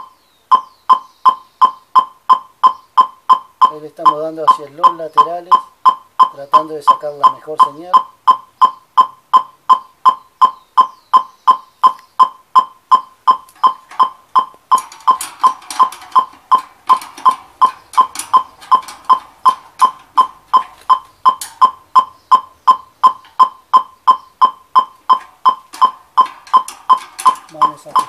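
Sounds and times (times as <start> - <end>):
short beeps: 0.0 - 28.0.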